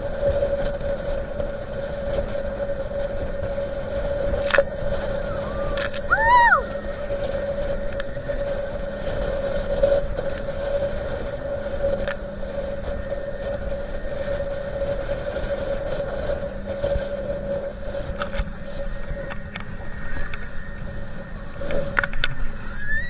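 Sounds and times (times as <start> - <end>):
motorboat engine running: 0.0 - 23.0
wind: 0.0 - 23.0.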